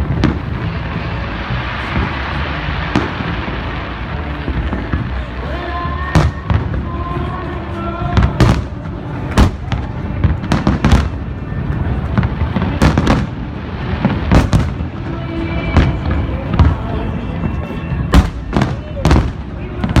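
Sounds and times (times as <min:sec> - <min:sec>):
fireworks bangs: 0:00.0 - 0:20.0
music: 0:00.0 - 0:20.0.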